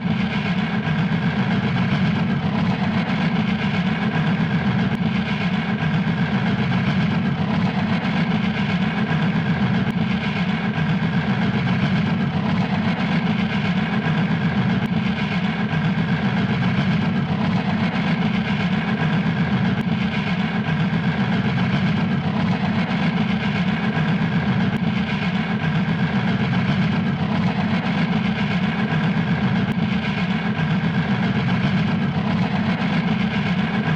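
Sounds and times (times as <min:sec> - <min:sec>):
rapid engine-like chugging: 0:00.0 - 0:33.9.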